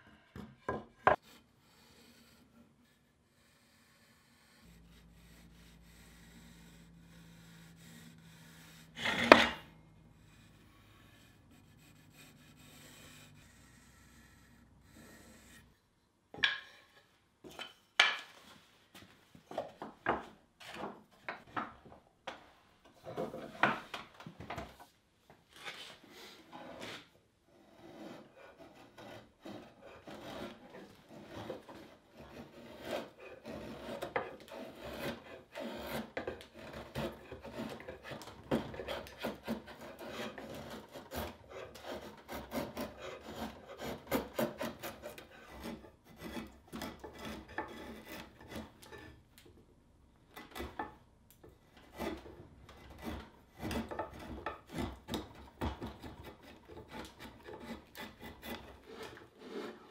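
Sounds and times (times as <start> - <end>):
spokeshave scraping wood: 1.0 - 15.8, 25.6 - 49.3, 50.4 - 59.9.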